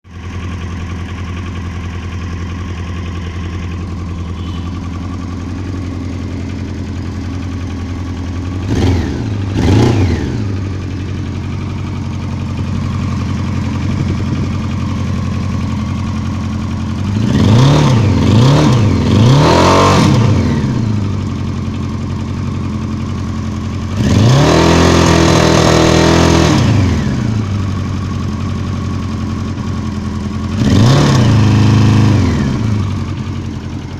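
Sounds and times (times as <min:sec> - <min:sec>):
motorcycle engine idling: 0:00.1 - 0:33.9
motorcycle throttle blips and revs: 0:00.1 - 0:33.9.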